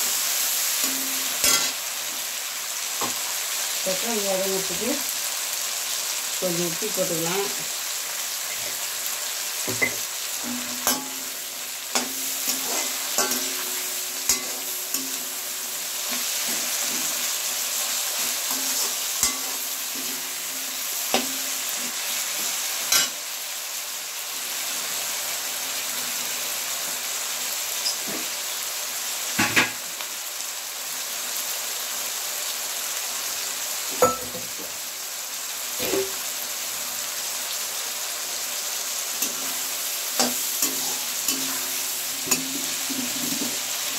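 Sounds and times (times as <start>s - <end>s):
vegetables sizzling in oil: 0.0s - 43.9s.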